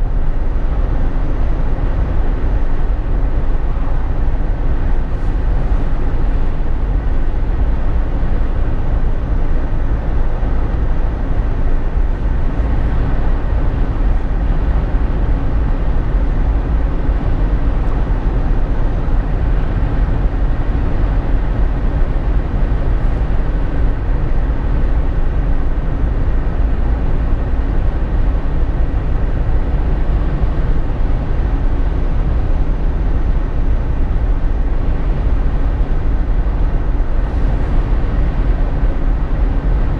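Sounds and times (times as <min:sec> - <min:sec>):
car interior road rumble: 0:00.0 - 0:39.9
faint steady hum: 0:00.0 - 0:39.9.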